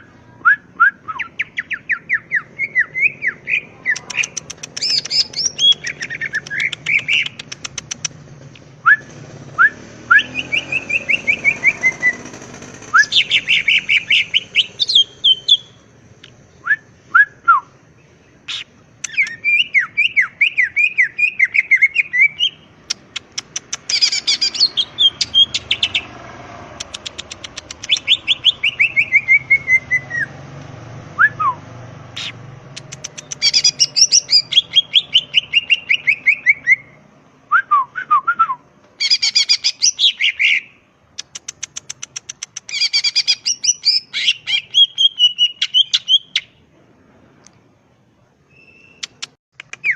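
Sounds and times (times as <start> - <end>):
bird singing rapid chirps: 0.4 - 30.4, 31.1 - 37.0, 39.0 - 46.7, 48.5 - 49.9.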